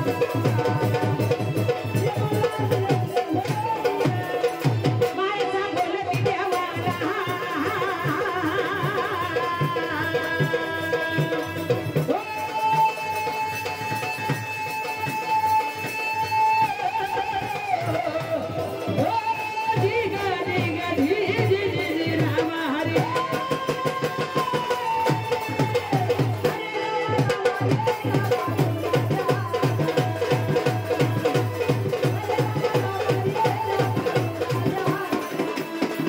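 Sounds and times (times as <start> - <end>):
hand drums rhythm: 0.0 - 36.0
woman singing: 0.0 - 36.0.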